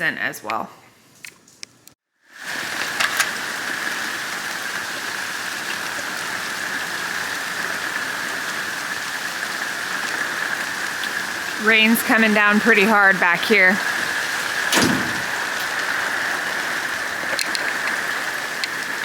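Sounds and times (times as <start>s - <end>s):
heavy rain on surfaces: 2.3s - 19.0s.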